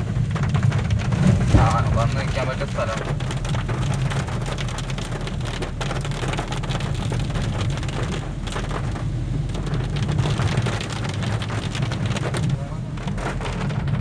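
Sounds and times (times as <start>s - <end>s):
low engine and road rumble: 0.0s - 14.0s
rain hitting car windscreen: 0.0s - 14.0s.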